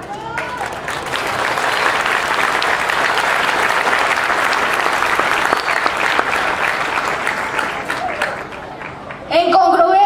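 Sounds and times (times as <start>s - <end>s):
audience applauding: 0.2s - 9.3s.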